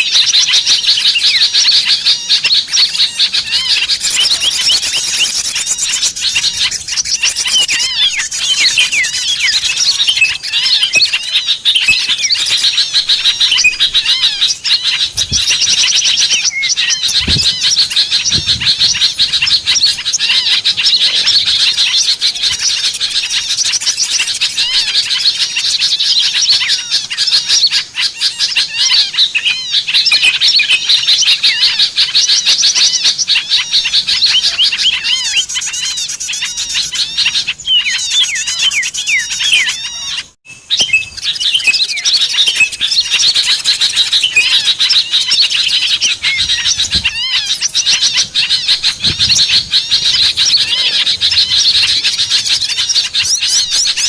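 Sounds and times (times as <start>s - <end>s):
small songbirds chirping and trilling: 0.0s - 54.0s.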